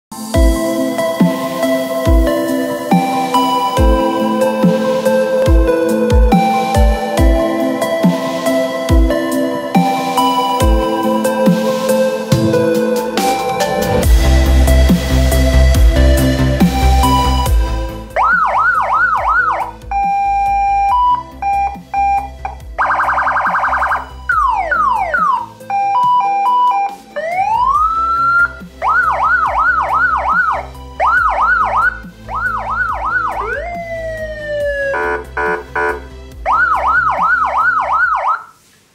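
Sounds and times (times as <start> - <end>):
electronic vehicle siren: 1.3 - 14.1, 16.2 - 38.6.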